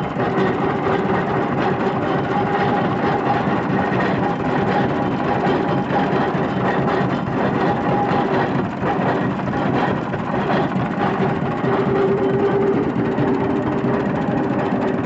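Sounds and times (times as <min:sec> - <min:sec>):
engine running with even beat: 0:00.0 - 0:15.0.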